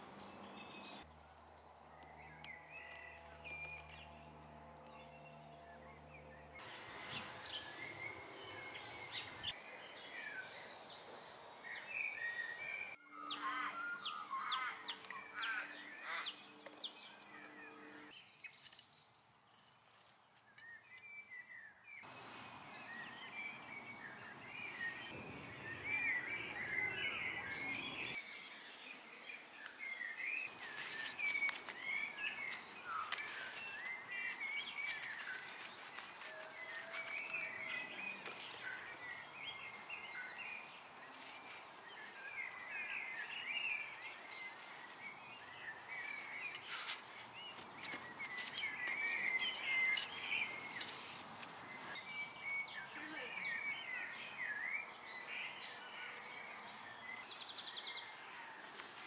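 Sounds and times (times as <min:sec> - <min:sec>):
birds singing and chirping: 0:00.0 - 0:01.0, 0:01.6 - 0:19.7, 0:20.5 - 0:58.8.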